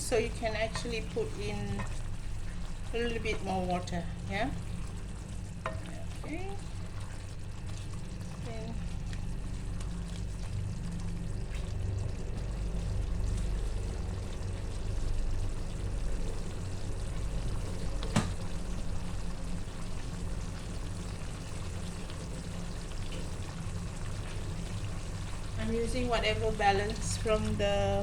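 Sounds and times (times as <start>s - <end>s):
pot sizzling and bubbling: 0.0s - 28.0s.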